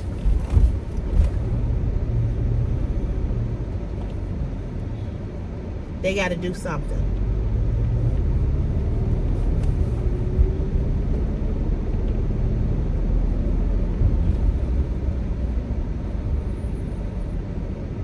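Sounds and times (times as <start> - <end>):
car engine running rough: 0.0 - 18.0.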